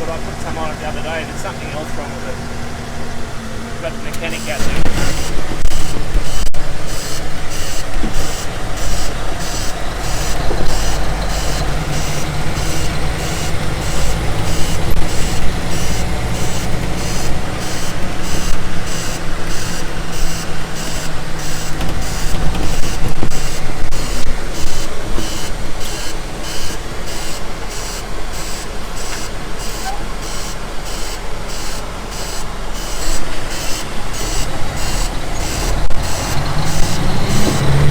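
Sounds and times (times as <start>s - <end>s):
vehicle engine droning: 0.0s - 37.9s
high-pitched pulsing: 3.8s - 37.9s.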